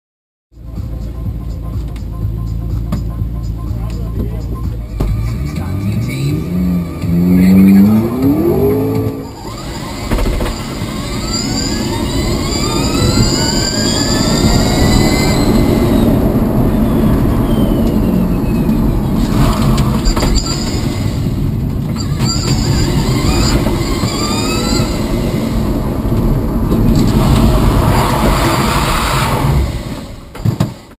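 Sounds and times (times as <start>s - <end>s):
tyre and road noise: 0.6s - 30.9s
electric motor whine rising: 5.3s - 30.4s.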